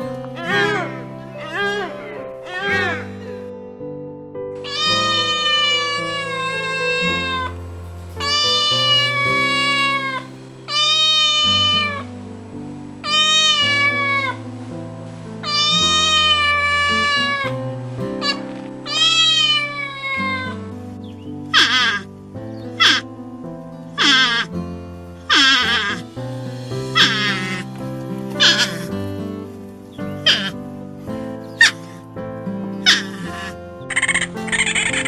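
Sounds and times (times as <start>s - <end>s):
background music with low notes: 0.0s - 35.0s.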